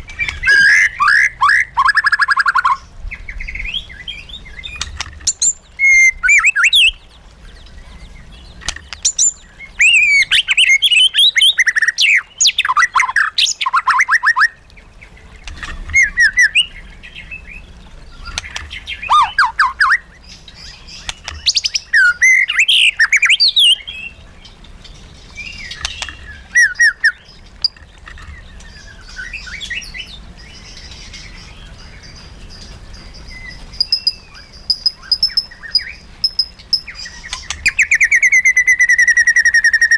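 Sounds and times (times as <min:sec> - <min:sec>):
bird singing whistles and trills: 0:00.0 - 0:14.6, 0:15.9 - 0:39.9.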